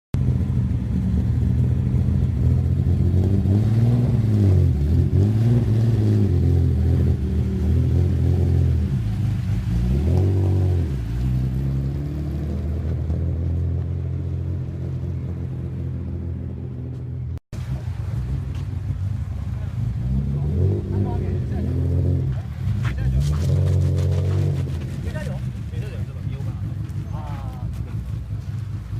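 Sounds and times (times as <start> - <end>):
car engine idling and revving: 0.2 - 28.9.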